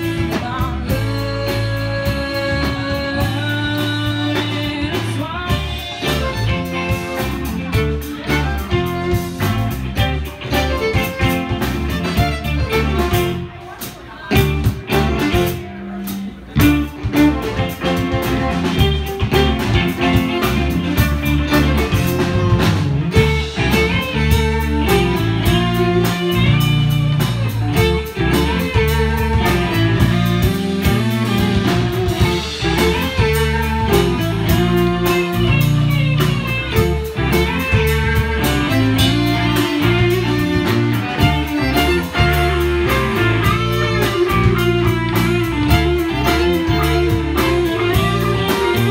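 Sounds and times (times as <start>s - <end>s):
bass guitar: 0.0s - 48.9s
drum kit beat: 0.0s - 48.9s
electric guitars: 0.0s - 48.9s
fiddle: 0.0s - 48.9s.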